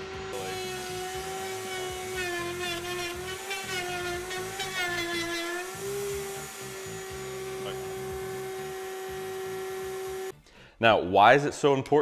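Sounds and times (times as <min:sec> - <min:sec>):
router bit cutting wood: 0:00.0 - 0:10.3
router whining: 0:00.0 - 0:10.3.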